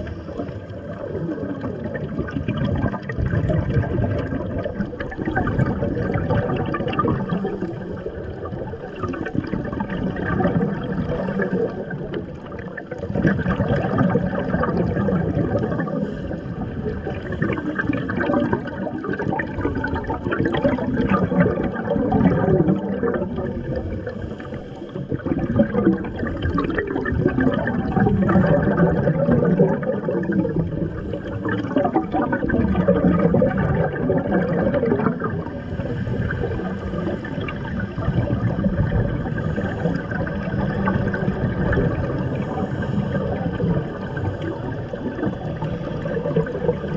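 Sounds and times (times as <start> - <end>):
steady underwater noise: 0.0 - 46.9
underwater regulator bubbles: 0.0 - 46.9.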